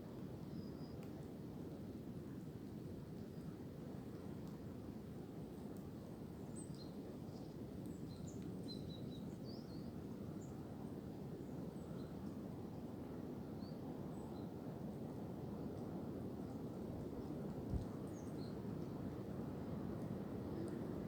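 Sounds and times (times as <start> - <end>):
wind through tree branches: 0.0 - 21.0.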